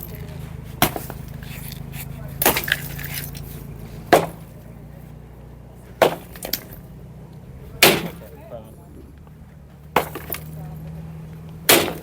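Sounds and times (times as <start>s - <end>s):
heavy demolition impacts: 0.0s - 12.0s.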